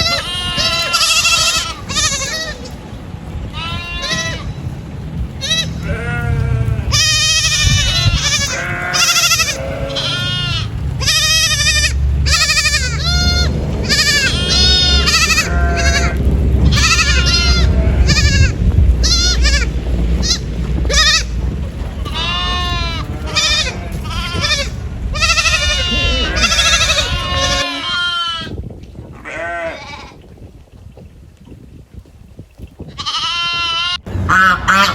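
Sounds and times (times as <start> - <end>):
goats bleating: 0.0 - 2.8, 3.5 - 4.6, 5.4 - 28.6, 29.2 - 30.2, 33.0 - 34.9
low steady rumble: 0.0 - 30.8, 33.0 - 34.9.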